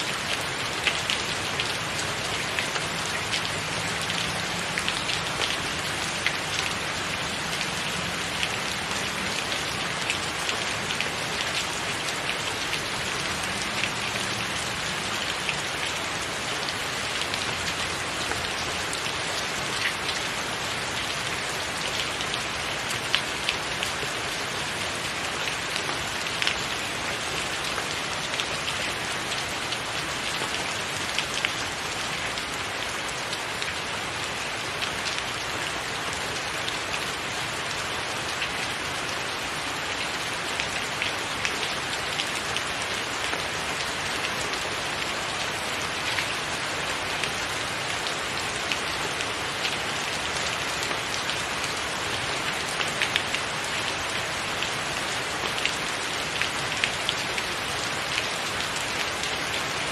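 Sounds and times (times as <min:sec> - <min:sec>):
rain on a tiled roof: 0:00.0 - 0:59.9.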